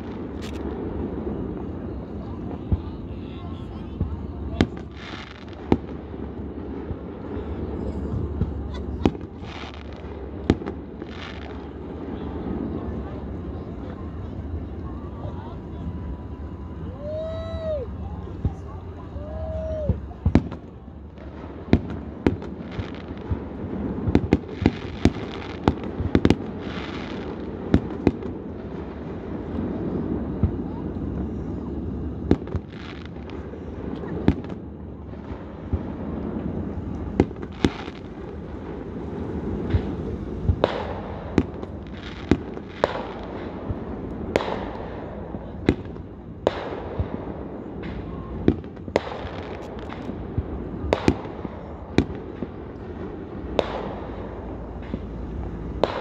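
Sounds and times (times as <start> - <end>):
fireworks bangs: 0.0 - 56.0
steady noisy background: 0.0 - 56.0.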